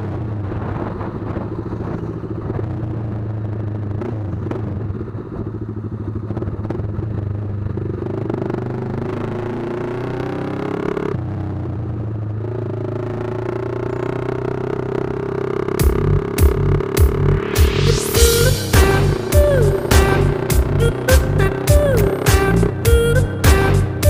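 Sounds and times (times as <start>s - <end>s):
motorcycle exhaust: 0.0s - 24.0s.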